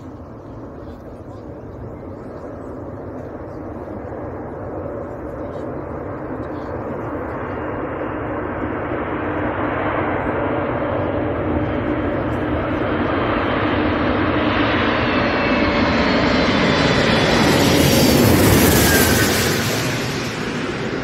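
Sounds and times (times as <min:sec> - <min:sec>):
jet engines roaring overhead: 0:00.0 - 0:21.0.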